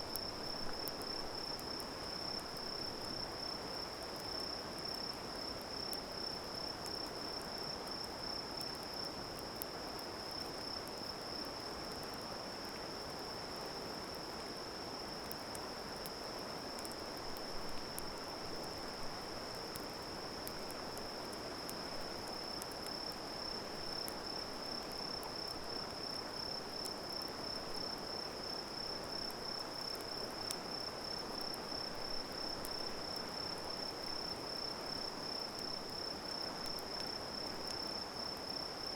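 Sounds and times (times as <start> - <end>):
campfire crackles: 0.0 - 14.0, 14.7 - 38.9.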